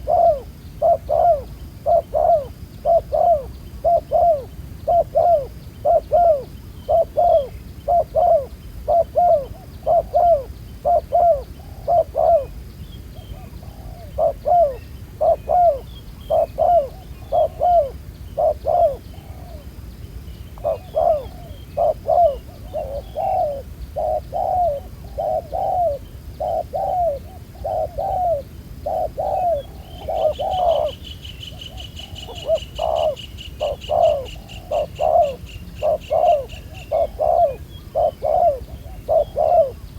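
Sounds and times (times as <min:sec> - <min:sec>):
doves cooing: 0:00.0 - 0:12.6, 0:13.2 - 0:19.8, 0:20.5 - 0:39.9.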